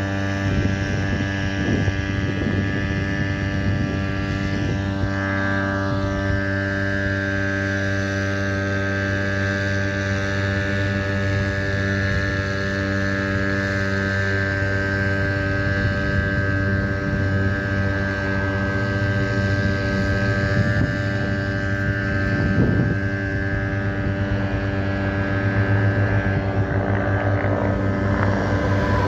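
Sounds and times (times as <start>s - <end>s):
steady engine drone: 0.0s - 29.0s.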